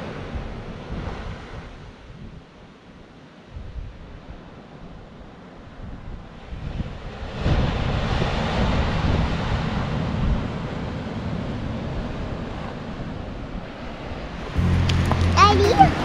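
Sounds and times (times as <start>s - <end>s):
wind buffeting microphone: 0.0s - 2.6s, 3.4s - 15.2s.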